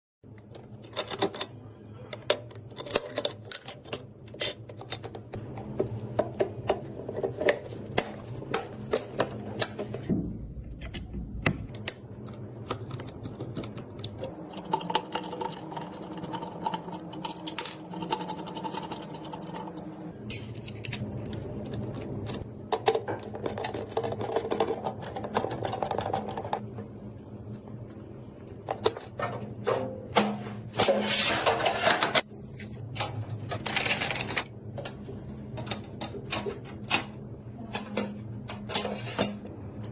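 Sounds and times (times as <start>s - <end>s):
steady low hum: 1.4s - 39.9s.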